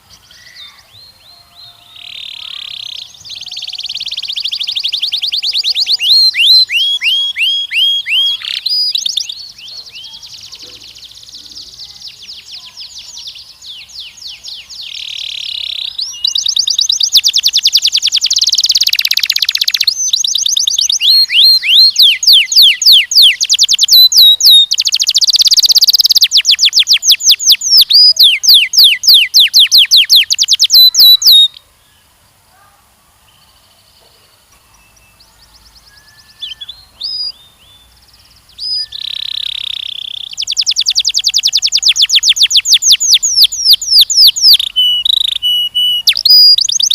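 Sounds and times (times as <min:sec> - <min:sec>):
canary singing trills: 0:00.0 - 0:32.7, 0:33.3 - 0:46.9.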